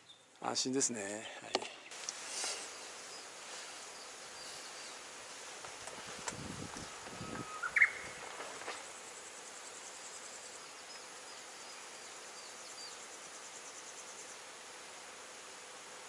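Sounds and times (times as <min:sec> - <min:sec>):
faint steady hiss: 0:00.0 - 0:16.0
insects trilling: 0:00.0 - 0:16.0.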